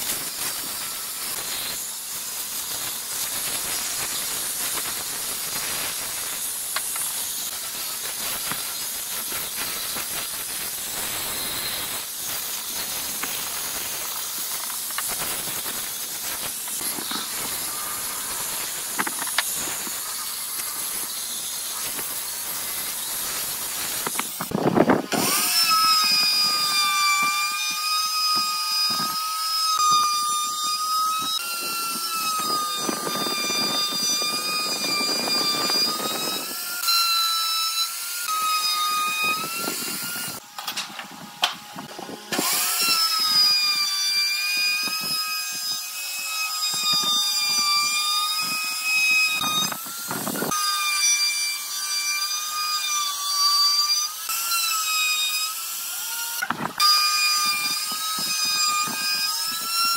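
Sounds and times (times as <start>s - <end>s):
power tool motor whining: 0.0s - 53.2s, 53.8s - 59.9s
rough wood cutting noise: 0.0s - 59.9s.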